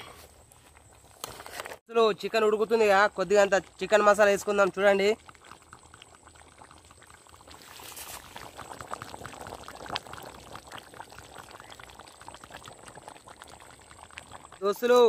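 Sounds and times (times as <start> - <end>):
curry bubbling in a pot: 2.6 - 15.0.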